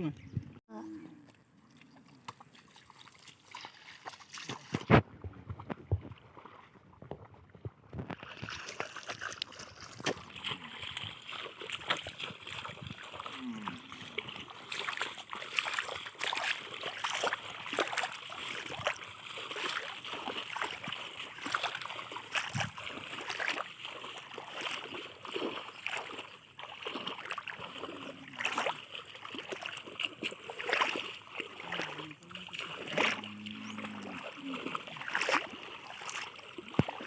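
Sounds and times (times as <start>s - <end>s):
river water splashing: 0.7s - 37.0s.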